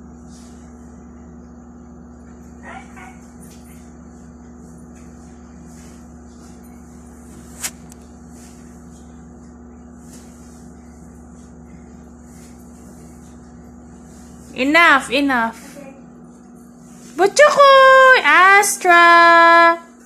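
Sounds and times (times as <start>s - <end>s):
low electrical hum: 0.0s - 20.0s
rustling of sheets: 0.2s - 1.0s, 2.8s - 19.7s.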